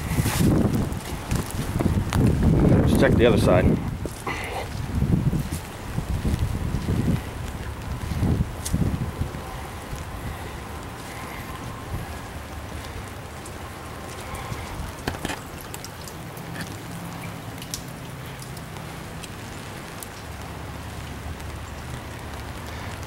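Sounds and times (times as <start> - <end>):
low wind rumble: 0.0 - 23.0
raindrops tapping close by: 0.0 - 23.0
steady rain falling: 0.0 - 23.0.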